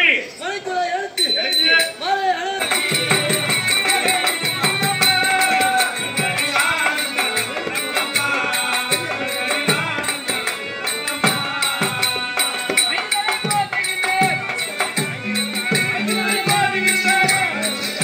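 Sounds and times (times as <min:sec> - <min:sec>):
jingling percussion: 0:01.2 - 0:18.0
drumbeats: 0:02.6 - 0:18.0
sustained melody: 0:02.6 - 0:18.0.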